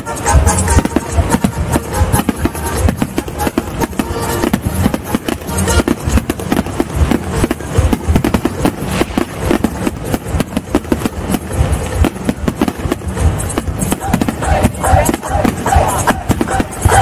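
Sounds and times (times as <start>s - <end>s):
fireworks booming and cracking: 0.0s - 17.0s.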